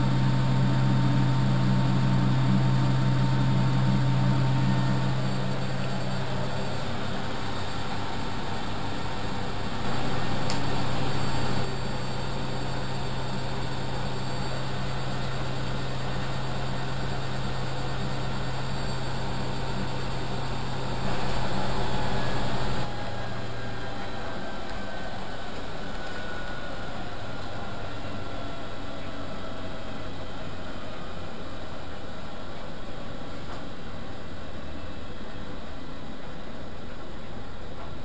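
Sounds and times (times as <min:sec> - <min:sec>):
washing machine motor hum: 0:00.0 - 0:38.0.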